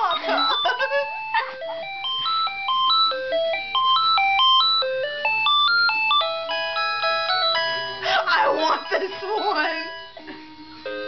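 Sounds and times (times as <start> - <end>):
phone electronic ringtone melody: 0.0 - 11.0.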